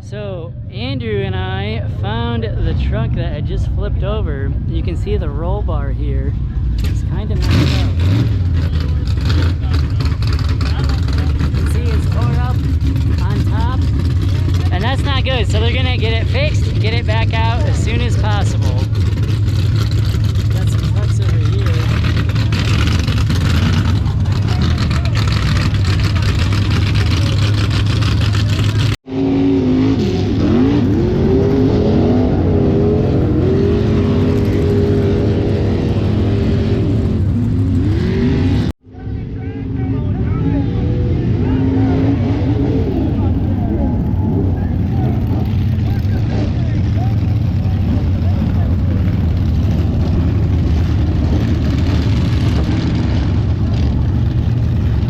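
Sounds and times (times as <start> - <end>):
truck engine revving: 0.8 - 55.0.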